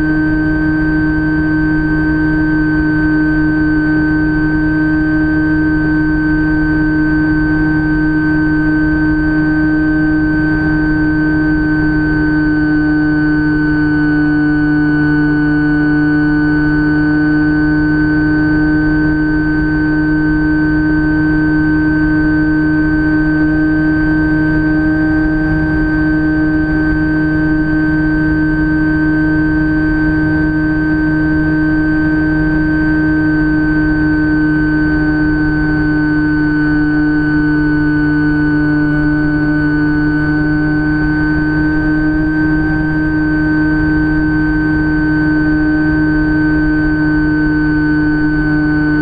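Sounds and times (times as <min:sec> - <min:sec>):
electric motor propeller whining: 0:00.0 - 0:49.0.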